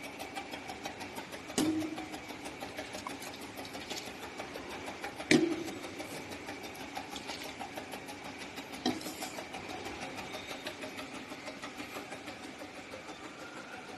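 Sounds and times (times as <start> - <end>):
capping machine humming and ticking: 0.0 - 13.9.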